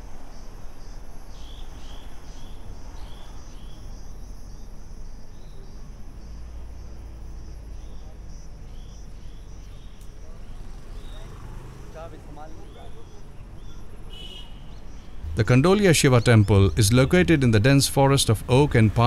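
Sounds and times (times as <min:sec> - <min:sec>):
insects chirring: 0:00.0 - 0:19.0
vehicle driving on road: 0:00.0 - 0:19.0.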